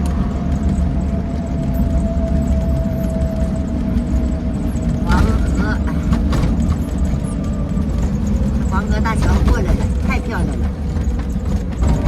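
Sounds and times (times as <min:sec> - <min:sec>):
motorhome road and engine rumble: 0:00.0 - 0:12.0.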